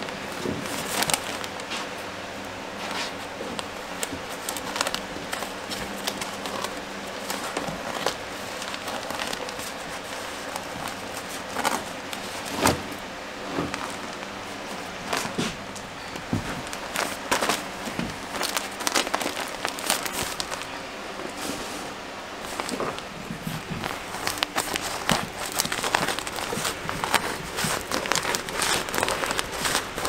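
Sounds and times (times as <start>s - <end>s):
paper crinkling: 0.0s - 2.0s, 2.8s - 21.8s, 22.4s - 30.0s
box fan humming: 0.0s - 30.0s.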